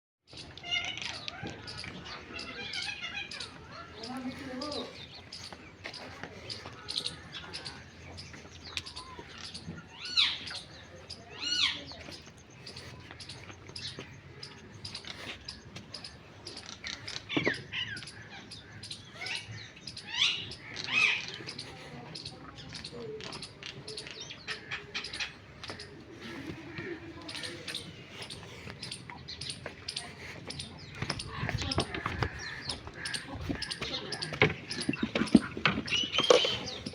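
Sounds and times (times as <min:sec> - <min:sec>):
birds chirping: 0:00.3 - 0:36.9
swooping bird calls: 0:00.3 - 0:36.9.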